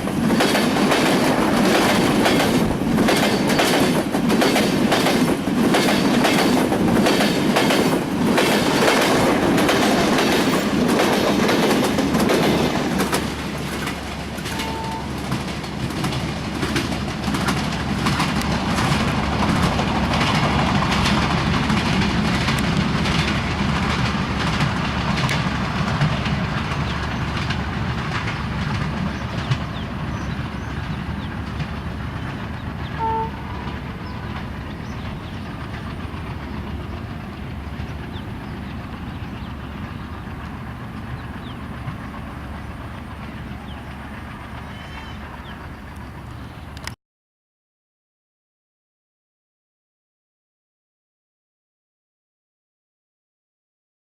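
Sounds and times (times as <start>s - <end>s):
train rumble: 0.0s - 47.0s
train wheels clicking over rail joints: 0.0s - 47.0s.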